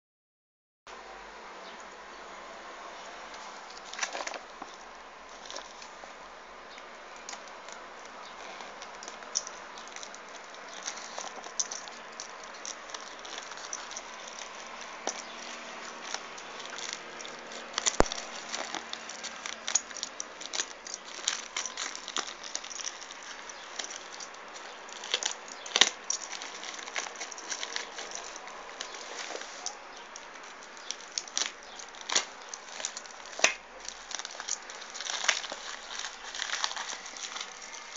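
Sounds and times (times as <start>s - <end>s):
packaging crackling and rustling: 3.3s - 37.9s.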